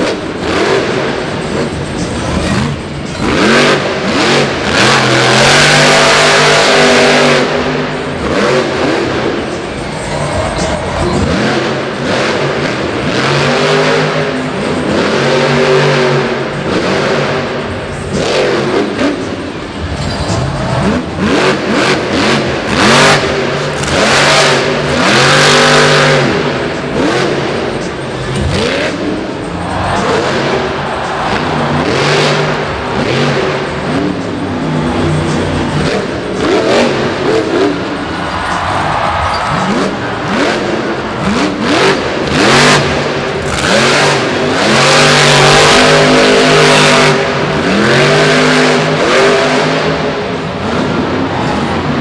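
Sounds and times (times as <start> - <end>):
monster truck engine revving: 0.0 - 52.0.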